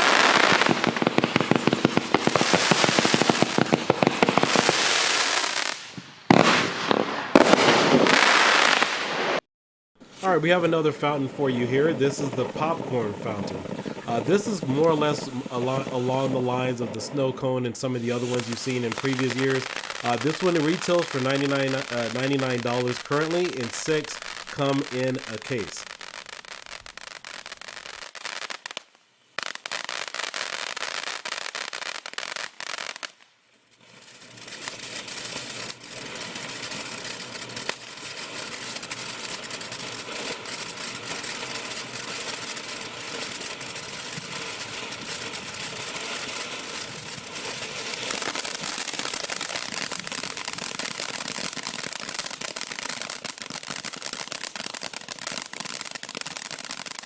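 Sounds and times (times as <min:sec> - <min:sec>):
firework hissing and crackling: 0:00.0 - 0:09.4, 0:10.0 - 0:57.0.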